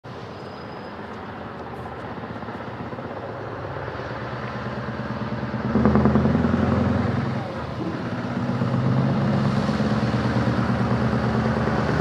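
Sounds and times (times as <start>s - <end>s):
diesel truck engine running: 0.1s - 12.0s.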